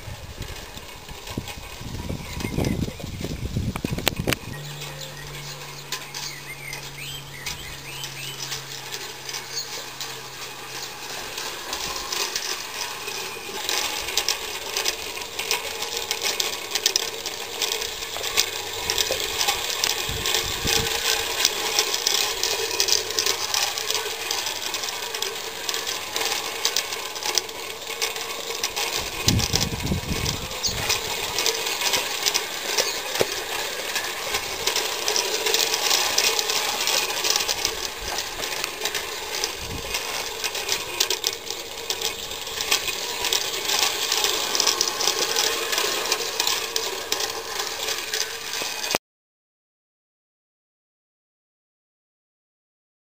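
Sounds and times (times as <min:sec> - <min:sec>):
steam locomotive clicking and rattling: 0:00.0 - 0:49.0.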